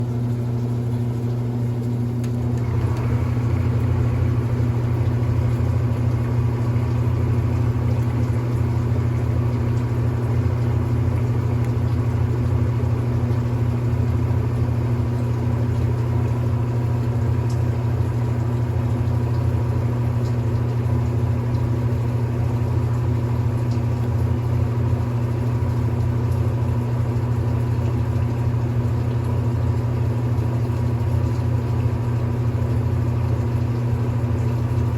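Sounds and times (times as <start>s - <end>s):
washing machine spin hum: 0.0s - 34.9s.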